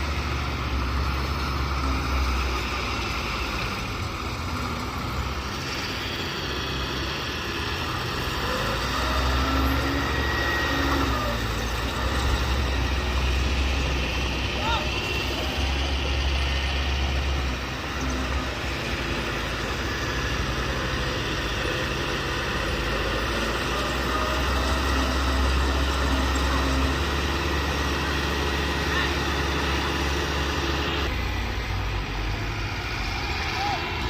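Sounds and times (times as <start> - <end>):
diesel machinery engine rumble: 0.0 - 34.0.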